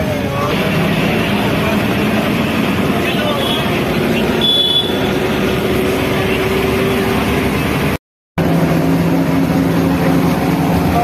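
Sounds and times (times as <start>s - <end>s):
bus engine and road noise: 0.0s - 11.0s.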